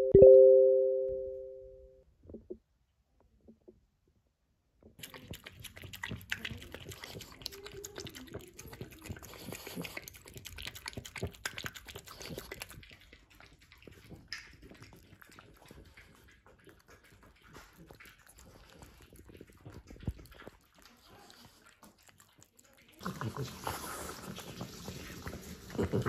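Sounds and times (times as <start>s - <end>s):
dogs lapping food from bowl: 5.0s - 26.0s.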